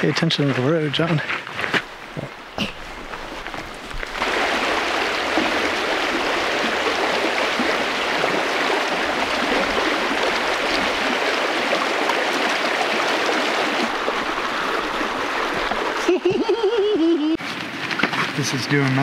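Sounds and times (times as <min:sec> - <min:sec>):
stream water rushing: 0:01.8 - 0:19.0.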